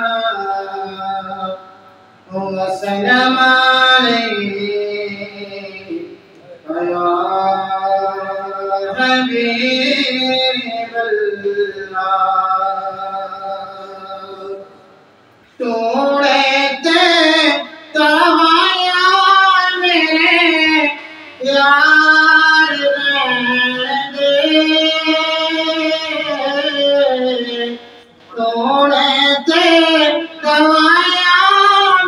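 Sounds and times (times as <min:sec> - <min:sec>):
man singing devotional poem: 0:00.0 - 0:14.9, 0:15.5 - 0:32.0.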